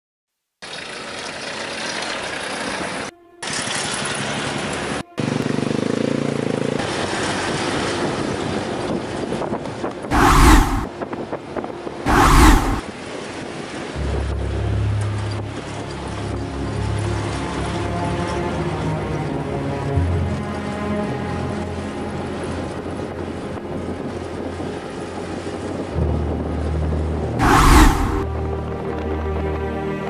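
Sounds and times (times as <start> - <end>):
engine and tyre noise: 0.6 - 11.0, 12.1 - 26.3, 27.0 - 29.2.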